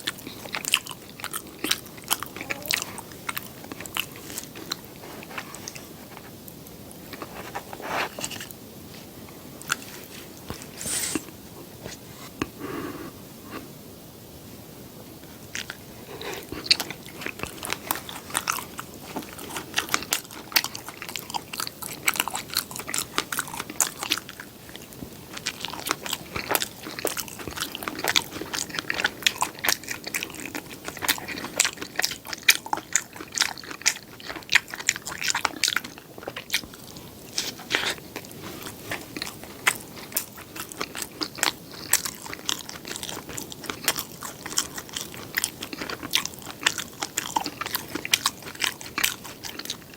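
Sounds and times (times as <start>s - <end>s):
person chewing crunchy food: 0.0s - 13.7s, 15.3s - 49.9s.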